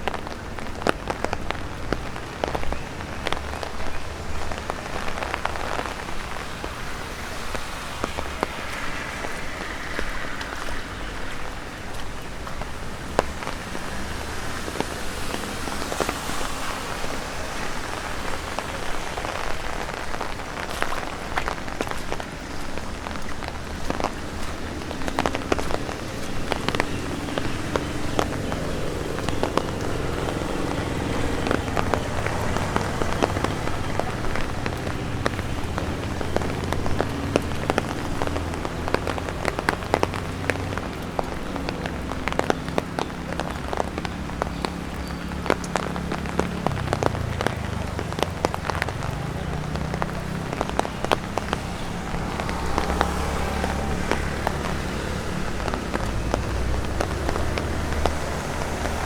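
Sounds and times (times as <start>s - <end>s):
rain drops tapping on umbrella: 0.0s - 59.0s
steady rain: 0.0s - 59.0s.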